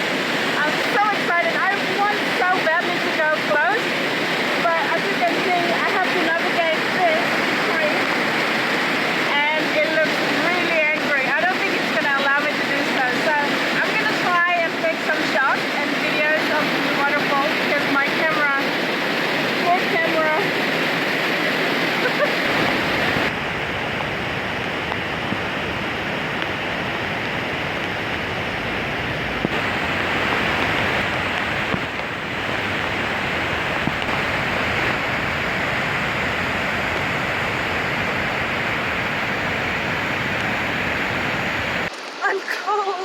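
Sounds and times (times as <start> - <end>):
waterfall pouring: 0.0 - 43.0.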